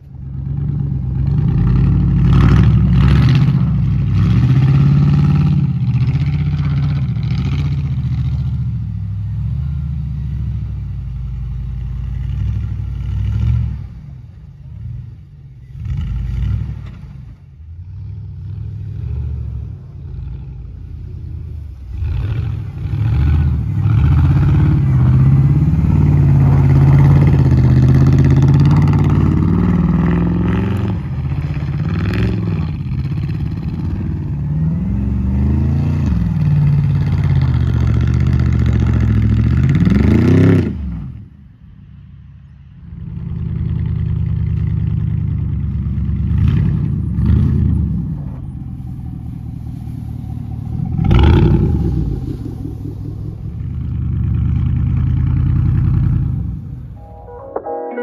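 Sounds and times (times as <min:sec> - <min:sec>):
truck engine revving: 0:00.2 - 0:15.0, 0:15.6 - 0:41.1, 0:45.7 - 0:57.0.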